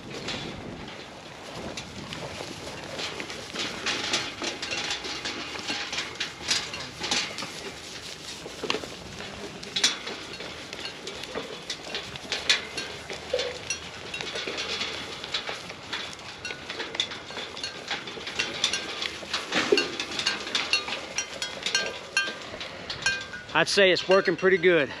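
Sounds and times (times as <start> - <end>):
goats crunching feed: 0.0 - 25.0.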